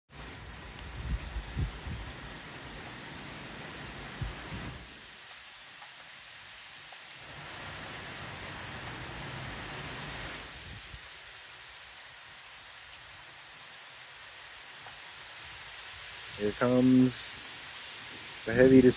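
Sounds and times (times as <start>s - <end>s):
rain hiss: 0.1s - 18.9s.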